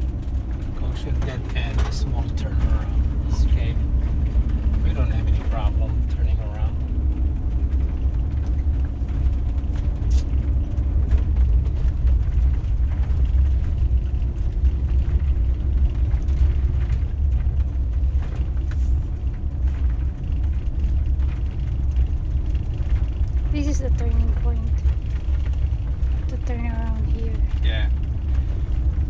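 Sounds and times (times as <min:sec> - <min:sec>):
van driving low rumble: 0:00.0 - 0:29.0.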